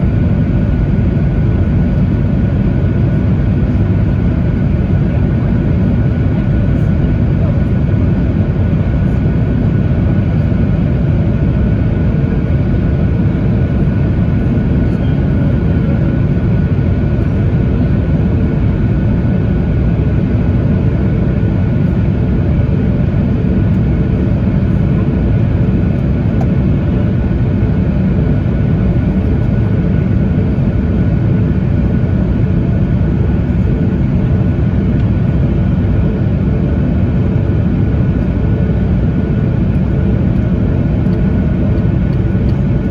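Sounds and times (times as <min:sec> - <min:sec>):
airliner cabin engine drone: 0:00.0 - 0:42.9.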